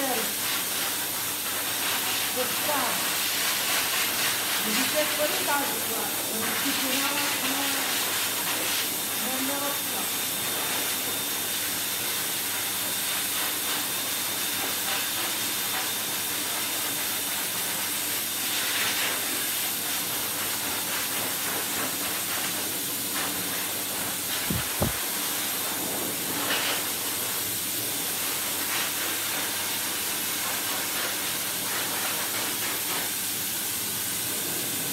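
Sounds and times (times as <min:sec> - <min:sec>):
pet dryer blowing air: 0:00.0 - 0:34.9.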